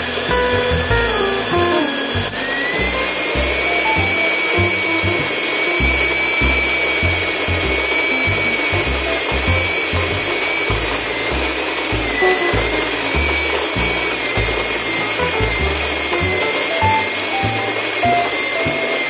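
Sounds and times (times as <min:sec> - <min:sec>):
background music with low beat: 0:00.0 - 0:18.4
stand mixer motor whining: 0:02.0 - 0:19.0.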